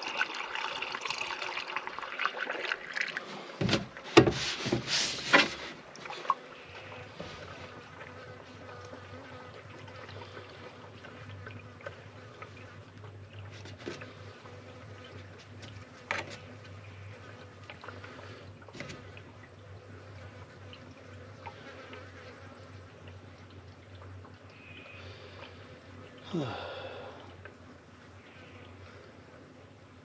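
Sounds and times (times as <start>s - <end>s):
water gurgling and trickling: 0.0s - 30.0s.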